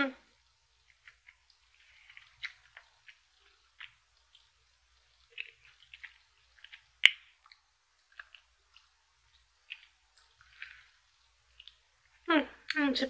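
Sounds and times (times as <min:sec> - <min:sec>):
sticky chewing sounds: 0:00.1 - 0:12.9.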